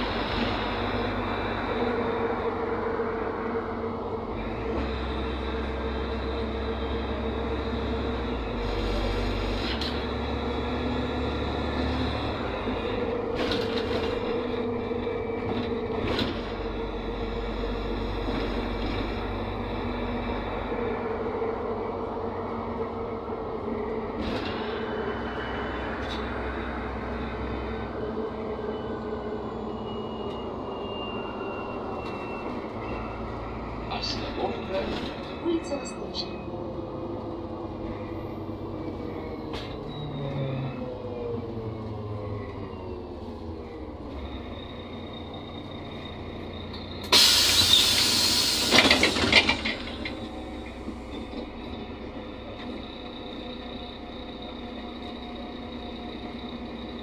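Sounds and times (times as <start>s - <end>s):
bus diesel engine drone: 0.0s - 57.0s
road noise: 0.0s - 57.0s.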